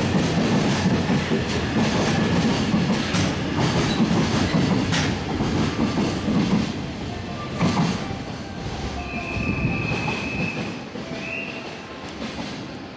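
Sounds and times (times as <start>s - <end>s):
freight train wheel rumble: 0.0s - 12.9s.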